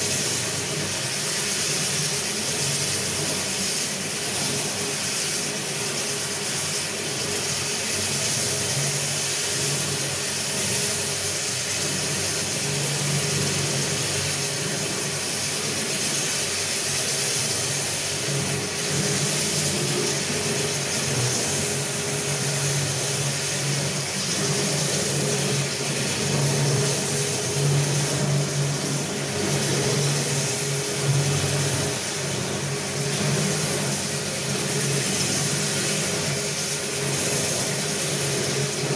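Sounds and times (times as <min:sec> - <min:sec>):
floor polishing machine humming: 0:00.0 - 0:38.9.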